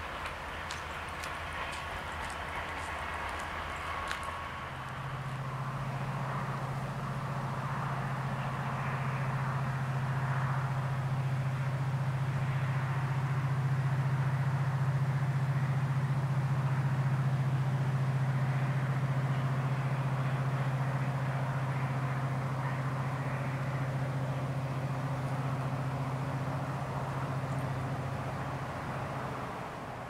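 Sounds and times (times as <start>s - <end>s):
diesel locomotive running: 0.0s - 30.0s.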